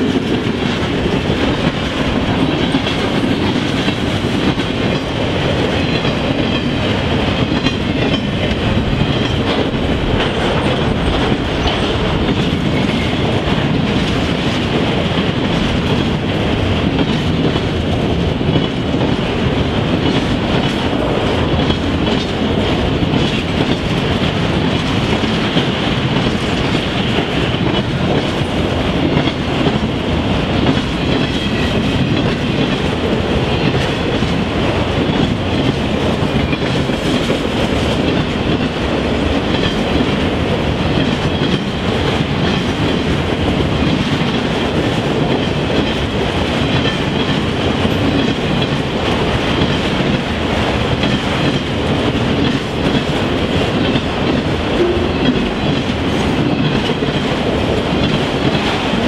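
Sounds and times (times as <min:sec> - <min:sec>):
freight train rumbling past: 0:00.0 - 0:59.0
steel wheels clattering on rails: 0:00.0 - 0:59.0.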